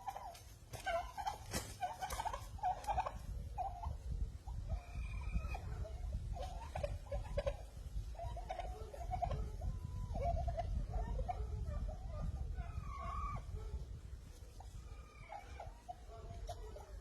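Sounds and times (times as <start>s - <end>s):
turkeys clucking and yelping: 0.0s - 17.0s.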